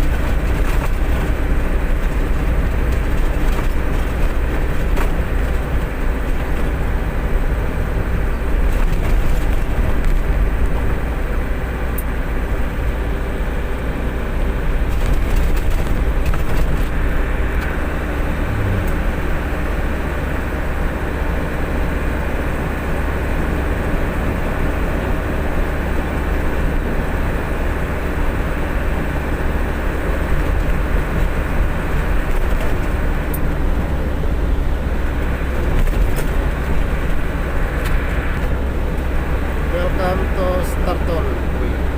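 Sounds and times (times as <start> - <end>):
truck engine droning: 0.0 - 41.9.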